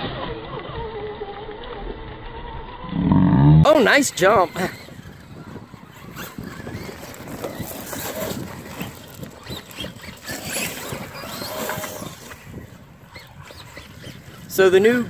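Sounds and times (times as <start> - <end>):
electric motors whining: 0.0 - 15.0
tires churning and splashing mud: 0.0 - 15.0.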